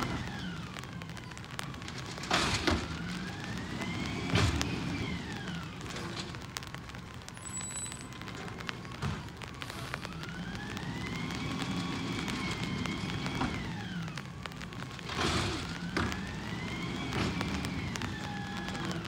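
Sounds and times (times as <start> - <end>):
truck engine revving with whine: 0.0 - 6.5, 9.2 - 19.0.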